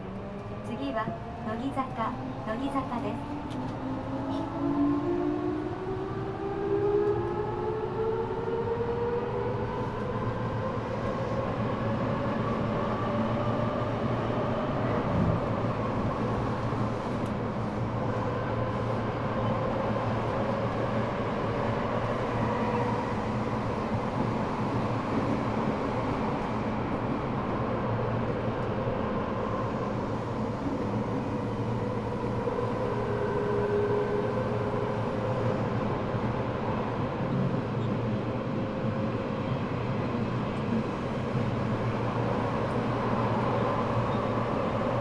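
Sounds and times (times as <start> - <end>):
subway inverter whine: 0.0 - 45.0.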